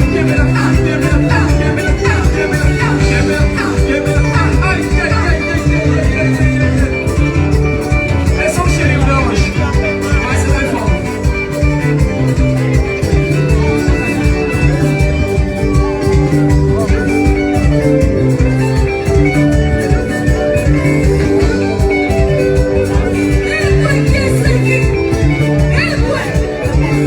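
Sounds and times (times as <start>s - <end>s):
band music with dance beat: 0.0s - 27.0s.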